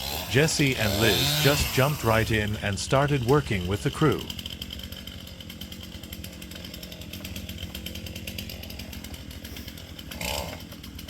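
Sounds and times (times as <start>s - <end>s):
chainsaw running: 0.0s - 11.0s.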